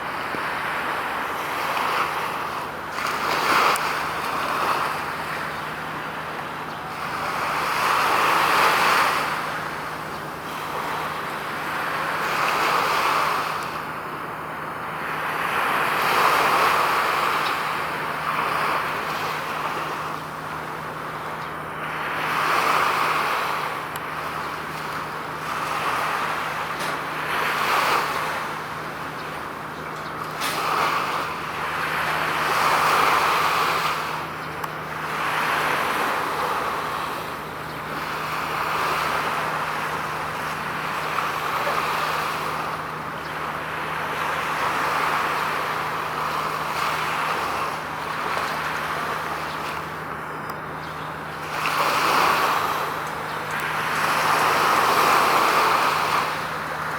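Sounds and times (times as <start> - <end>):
steady low traffic hum: 0.0 - 56.9
vehicles passing: 0.0 - 56.9.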